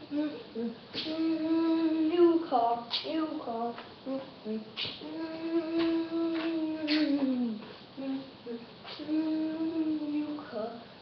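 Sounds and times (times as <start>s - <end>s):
child singing wordless notes: 0.0s - 10.9s.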